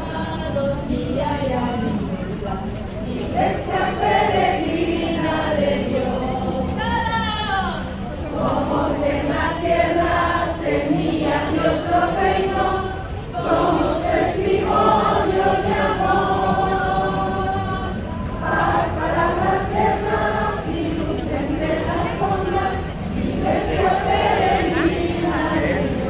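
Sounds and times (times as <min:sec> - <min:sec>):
crowd singing a hymn: 0:00.0 - 0:26.0.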